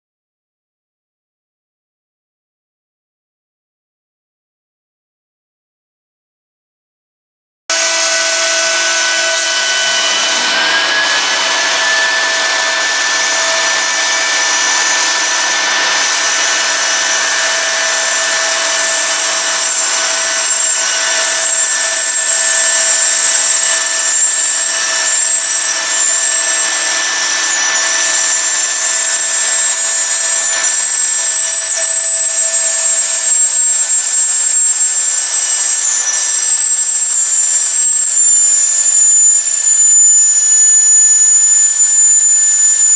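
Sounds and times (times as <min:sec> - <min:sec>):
dust extraction rush: 0:07.7 - 0:42.9
router spindle whine: 0:07.7 - 0:42.9.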